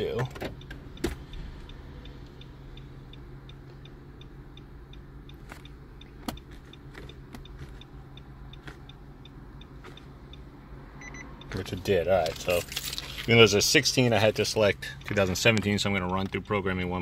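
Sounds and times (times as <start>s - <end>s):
small ticking in car cabin: 0.0s - 17.0s
steady low hum: 0.0s - 17.0s.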